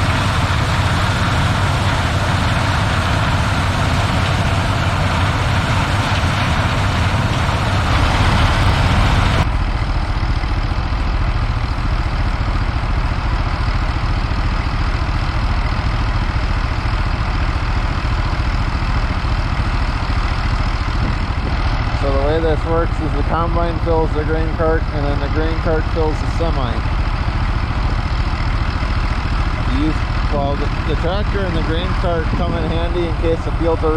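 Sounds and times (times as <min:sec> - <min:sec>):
diesel machinery engine drone: 0:00.0 - 0:33.9.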